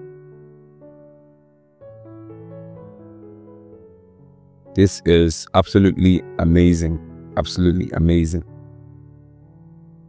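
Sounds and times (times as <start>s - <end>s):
slow keyboard chords: 0.0s - 10.0s.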